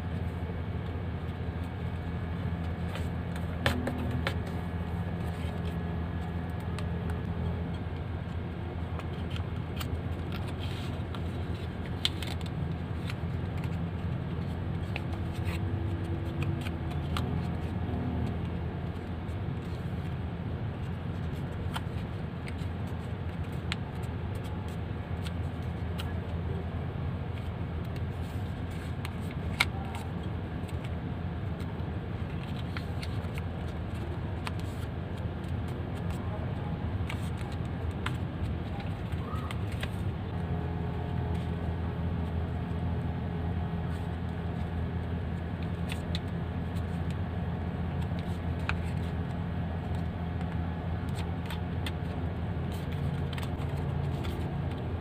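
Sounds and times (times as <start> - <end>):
steady low hum: 0.0 - 55.0
paper crinkling and folding: 2.8 - 26.4, 27.4 - 42.6, 43.6 - 55.0.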